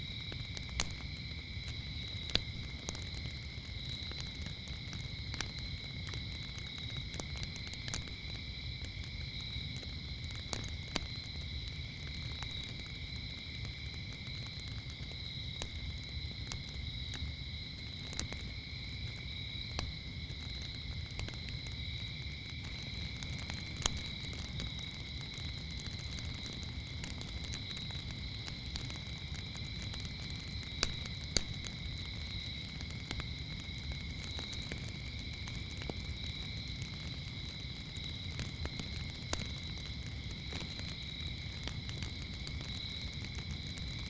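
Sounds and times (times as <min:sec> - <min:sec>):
crickets chirping: 0:00.0 - 0:44.0
wood fire crackling: 0:00.0 - 0:44.0.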